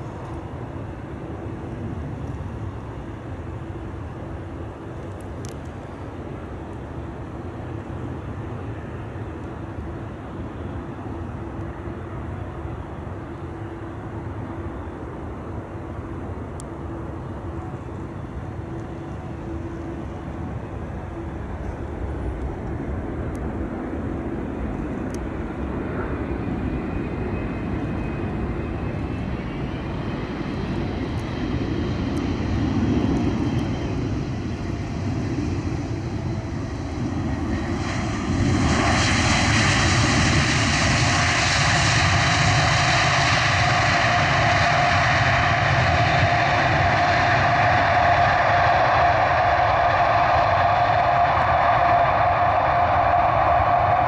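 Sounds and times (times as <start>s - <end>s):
jet engine whine: 0.0s - 54.0s
jet engines rumbling: 0.0s - 54.0s.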